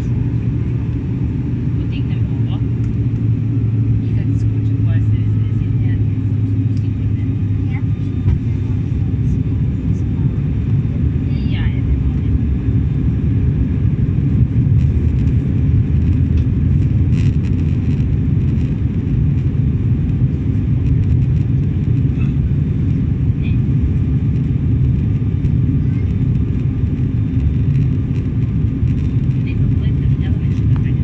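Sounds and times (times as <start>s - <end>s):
airflow over fuselage: 0.0s - 31.0s
turboprop engines droning: 0.0s - 31.0s.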